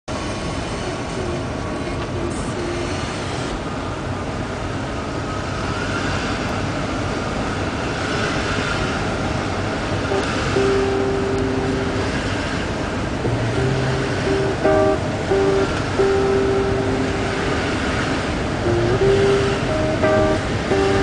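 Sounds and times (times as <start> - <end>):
vehicle rumble: 0.5 - 21.0.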